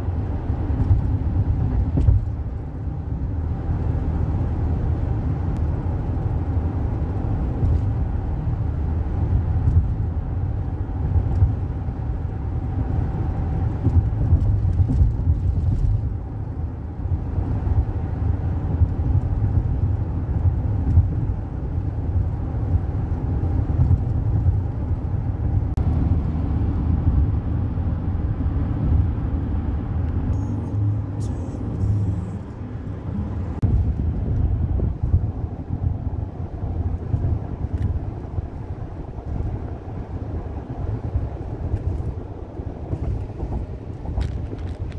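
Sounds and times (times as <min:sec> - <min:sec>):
car driving on road: 0:00.0 - 0:44.9.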